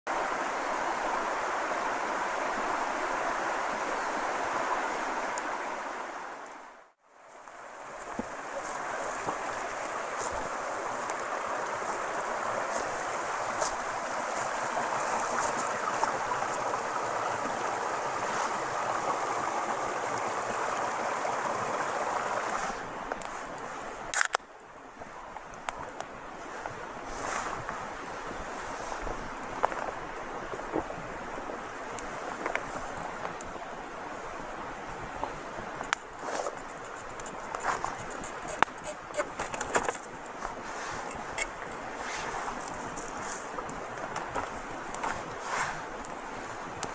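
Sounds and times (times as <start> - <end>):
stream rushing: 0.1 - 46.9.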